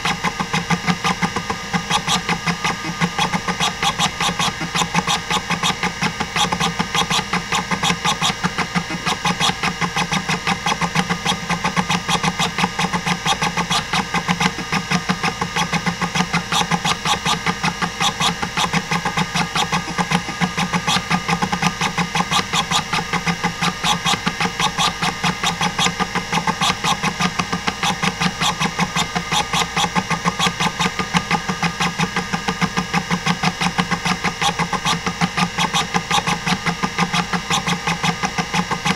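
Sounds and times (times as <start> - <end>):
hard drive head clicking: 0.0 - 38.9
hard drive platters humming: 0.0 - 38.9.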